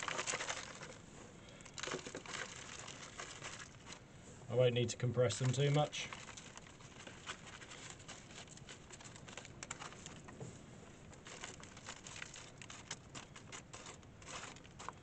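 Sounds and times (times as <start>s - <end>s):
faint small crackles: 0.0s - 4.1s, 5.2s - 15.0s
compost pattering and rustling: 0.0s - 15.0s.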